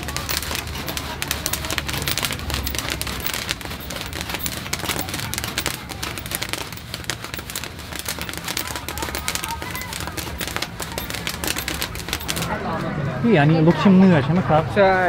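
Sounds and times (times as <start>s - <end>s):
popcorn popping in a kettle: 0.0s - 12.5s.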